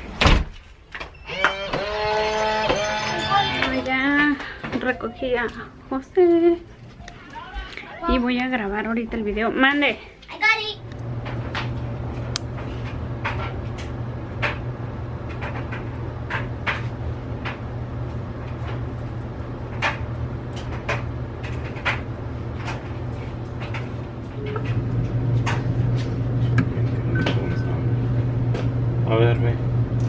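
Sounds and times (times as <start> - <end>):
steady low hum: 1.2 - 30.0.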